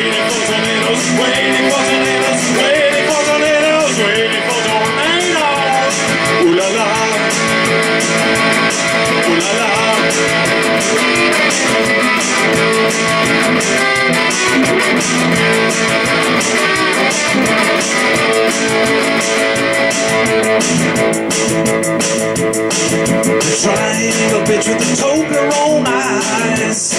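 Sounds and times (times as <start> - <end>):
electric guitar strumming: 0.0 - 26.9.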